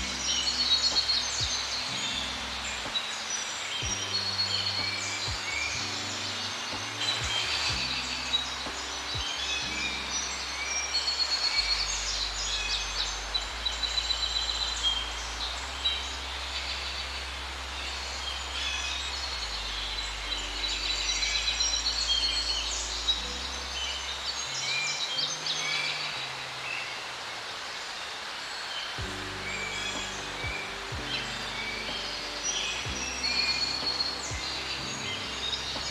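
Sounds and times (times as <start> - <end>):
low sustained bass notes: 0.0 - 27.2, 29.0 - 35.9
small birds chirping and trilling: 0.0 - 35.9
steady hiss: 0.0 - 35.9.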